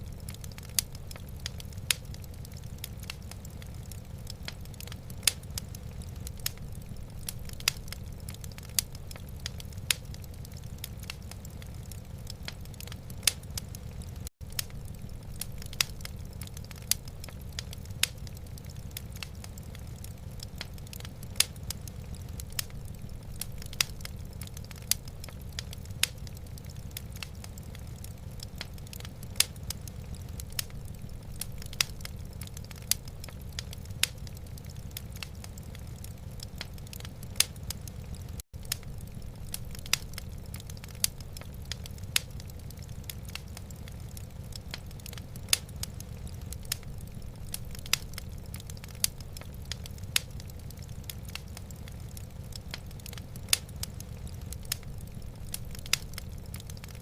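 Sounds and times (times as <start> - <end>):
fire low rumble: 0.0 - 57.0
wood fire crackling and popping: 0.0 - 57.0.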